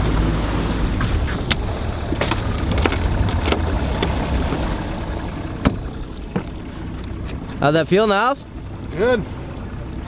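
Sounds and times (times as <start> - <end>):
boat motor rumbling: 0.0 - 10.0
water splashing against hull: 0.0 - 10.0.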